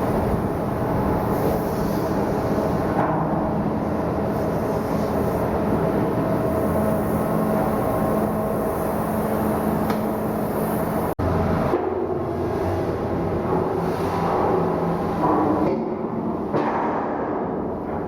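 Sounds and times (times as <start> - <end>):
heavy machinery hum: 0.0 - 18.0.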